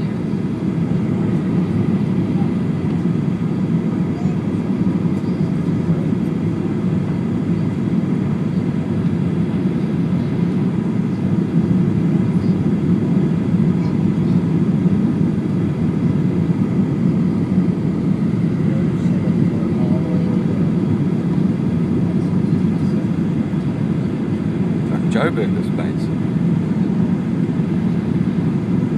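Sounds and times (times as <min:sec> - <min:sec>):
aircraft cabin engine drone: 0:00.0 - 0:28.9.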